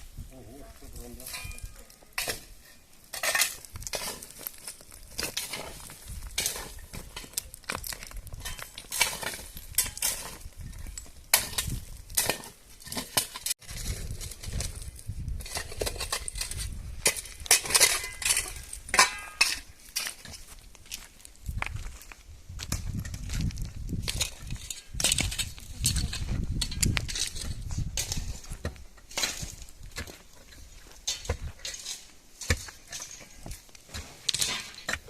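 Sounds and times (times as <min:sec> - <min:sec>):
hard objects clinking and scraping: 0:01.1 - 0:22.0, 0:22.6 - 0:35.0.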